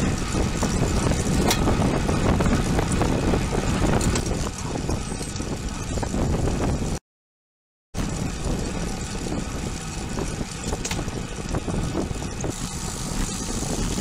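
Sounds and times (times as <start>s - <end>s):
bicycle tyres on asphalt: 0.0s - 7.0s, 8.0s - 14.0s
wind on microphone: 0.0s - 7.0s, 8.0s - 14.0s.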